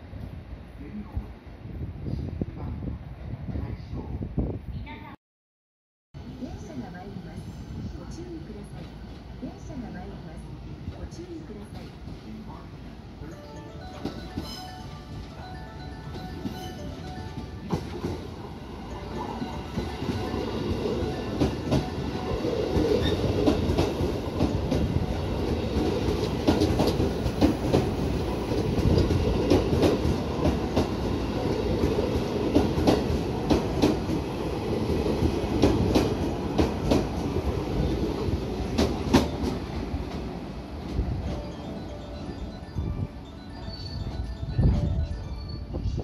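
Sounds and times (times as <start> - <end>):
electric train rumbling past: 6.2 - 46.0.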